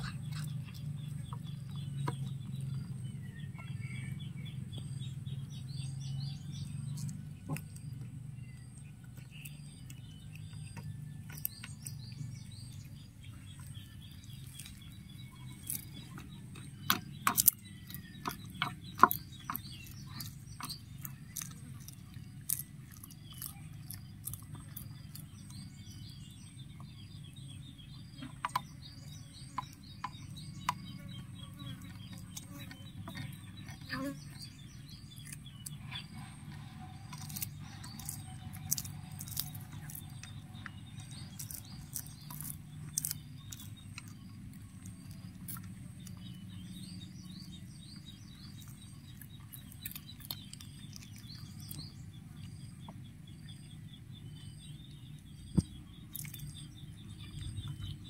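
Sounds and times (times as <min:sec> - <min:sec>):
cats chewing and crunching: 0:00.0 - 0:58.0
small birds chirping: 0:00.0 - 0:58.0
steady low hum: 0:00.0 - 0:58.0.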